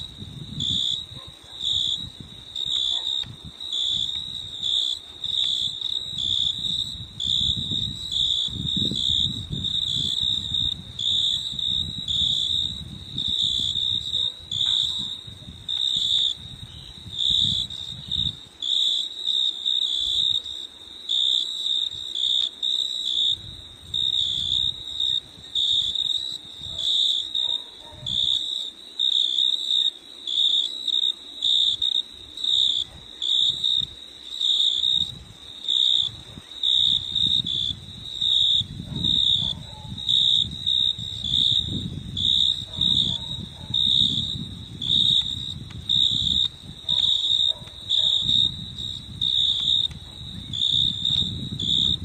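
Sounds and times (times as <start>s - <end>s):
insect chirping: 0.0s - 52.0s.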